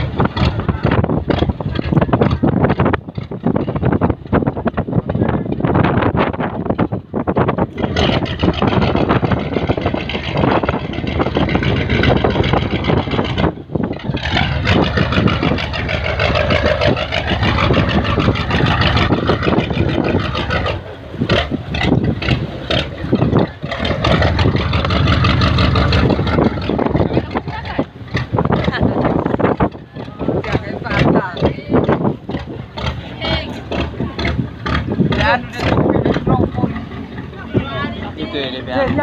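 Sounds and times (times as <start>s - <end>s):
boat engine running: 0.0s - 39.0s.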